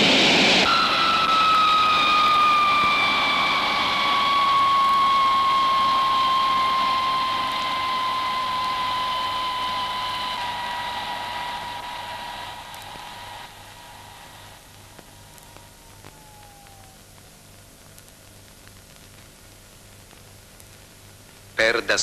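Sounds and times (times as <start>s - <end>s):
rushing noise: 0.0s - 17.7s
jet engine whine: 0.0s - 18.8s.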